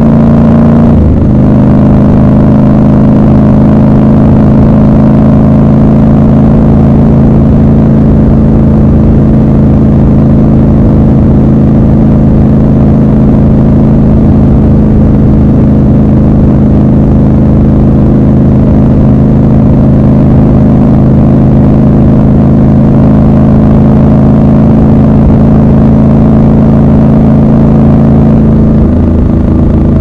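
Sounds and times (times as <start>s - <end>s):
motorcycle engine cruising: 0.0s - 30.0s
road noise: 0.0s - 30.0s.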